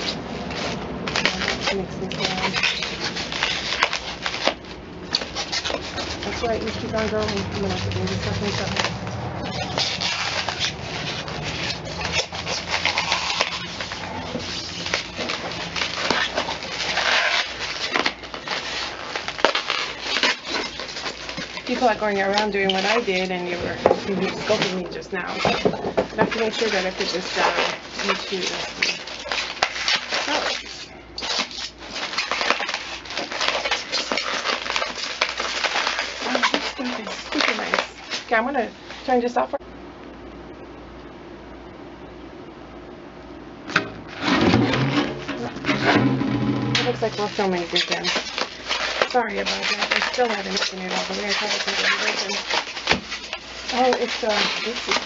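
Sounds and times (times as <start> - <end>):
packaging rustling and crinkling: 0.0 - 39.6, 43.7 - 55.0.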